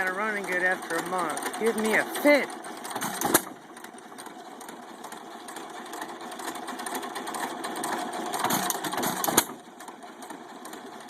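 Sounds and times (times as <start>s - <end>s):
stationary engine clattering: 0.0s - 11.0s.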